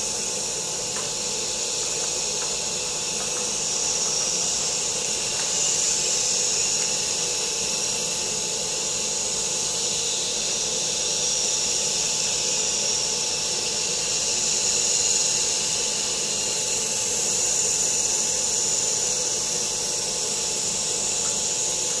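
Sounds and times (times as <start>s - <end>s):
propeller airy hiss: 0.0s - 22.0s.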